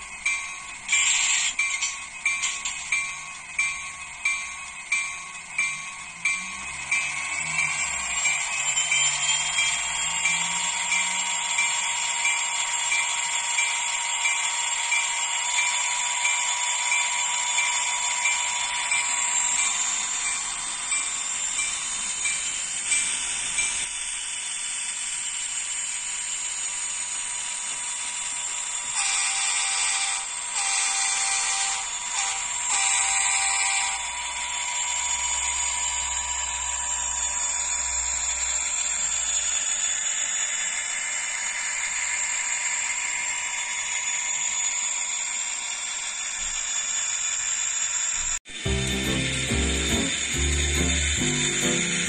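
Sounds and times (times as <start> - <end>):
model train engine sound from speaker: 0.0 - 52.0
model train running on track: 0.0 - 52.0.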